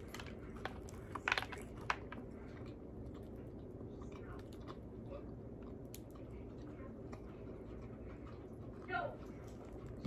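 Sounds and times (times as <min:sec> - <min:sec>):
person chewing crispy food: 0:00.0 - 0:10.0
steady low hum: 0:00.0 - 0:10.0.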